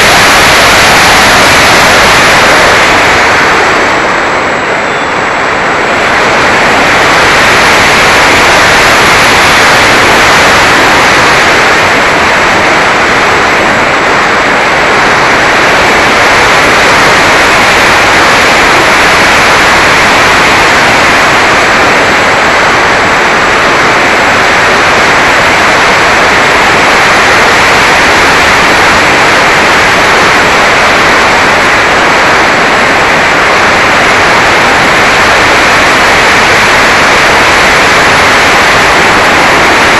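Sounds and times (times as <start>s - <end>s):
motor noise: 0.0s - 39.9s
wind rushing: 0.0s - 39.9s.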